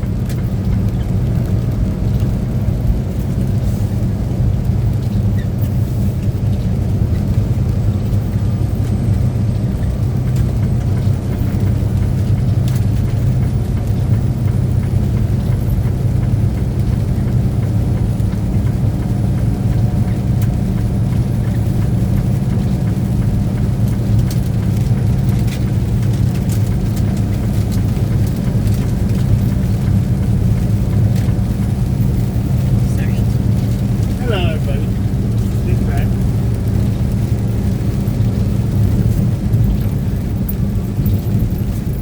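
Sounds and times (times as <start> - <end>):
road noise: 0.0 - 42.0
truck engine rumble: 0.0 - 42.0.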